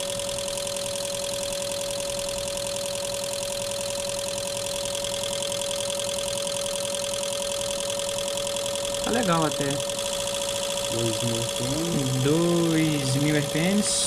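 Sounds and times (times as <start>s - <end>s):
fuel injectors pulsing rapidly: 0.0s - 14.0s
steady hum: 0.0s - 14.0s.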